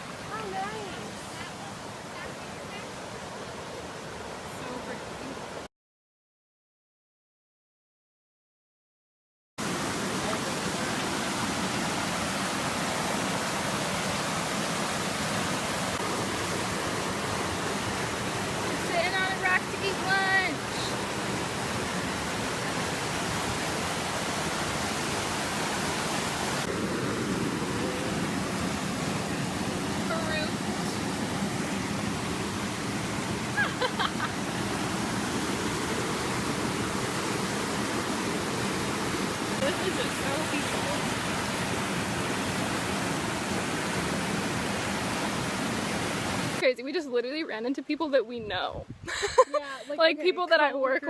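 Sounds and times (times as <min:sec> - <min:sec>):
waterfall rushing: 0:00.0 - 0:05.6, 0:09.6 - 0:46.8.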